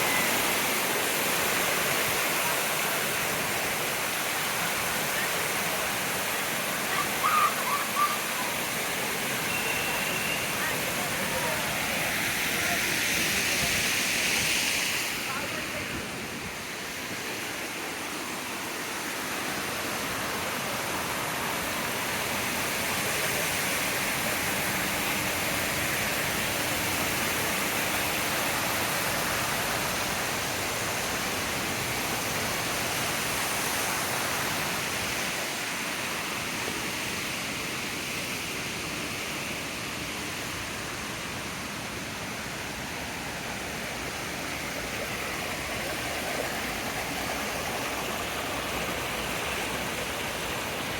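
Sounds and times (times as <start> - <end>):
water rushing down cascade: 0.0 - 50.9.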